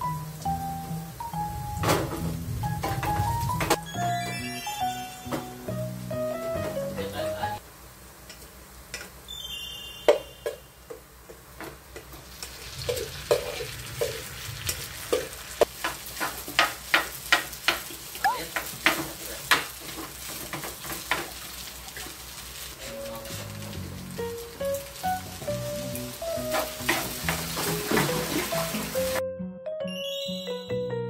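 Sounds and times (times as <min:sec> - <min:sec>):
rice sizzling in frying pan: 0:00.0 - 0:03.7, 0:04.4 - 0:29.2.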